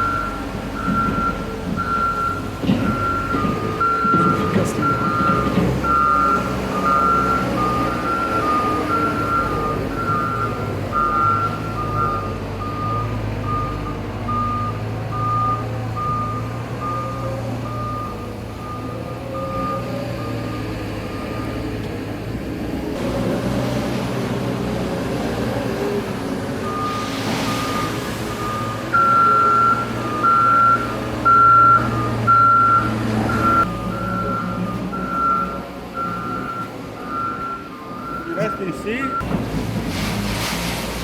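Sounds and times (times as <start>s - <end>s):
reversing alarms beeping: 0.0s - 21.7s, 26.6s - 39.3s
diesel engine hum: 0.0s - 41.0s.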